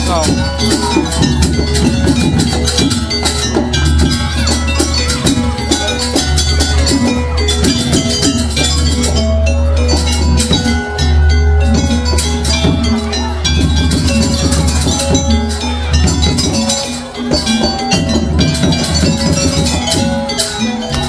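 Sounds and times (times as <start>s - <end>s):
rapid drum strokes: 0.0s - 21.0s.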